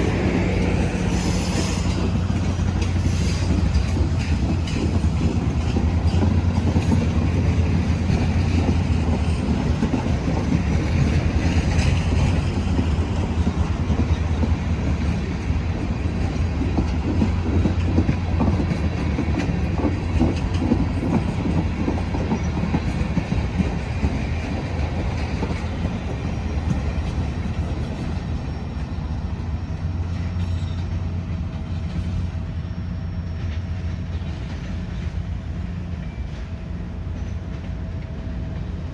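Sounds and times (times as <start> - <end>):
freight train wheels on rails: 0.0 - 38.9.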